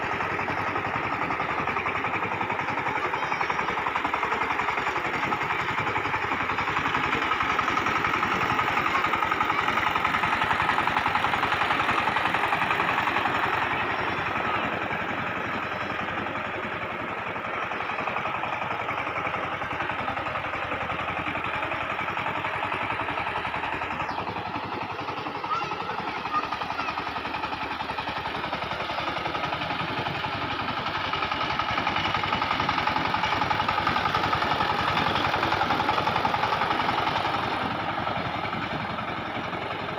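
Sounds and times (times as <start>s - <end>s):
diesel tiller engine running: 0.0s - 39.9s
wheels churning mud: 0.0s - 39.9s.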